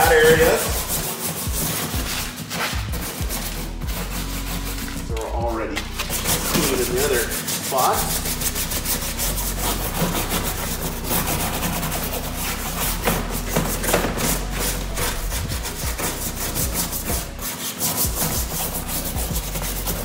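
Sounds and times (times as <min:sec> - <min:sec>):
brush scrubbing wet rubber mat: 0:00.0 - 0:20.0.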